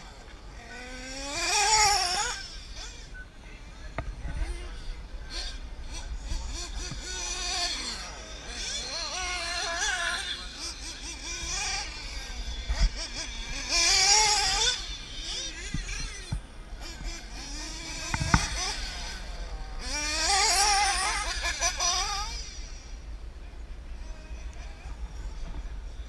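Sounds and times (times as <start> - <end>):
remote control car motors whining: 0.0 - 23.3.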